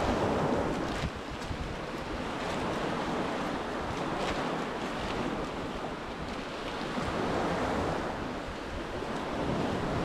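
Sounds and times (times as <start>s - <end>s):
surf washing onto beach: 0.0s - 10.0s
wind buffeting microphone: 0.0s - 10.0s.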